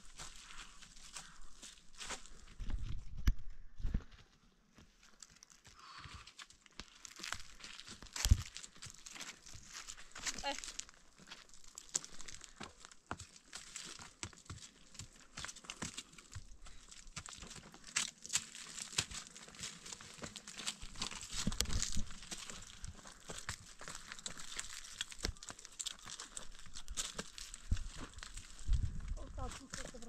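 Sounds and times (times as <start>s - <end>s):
crackling and rustling: 5.0s - 30.0s.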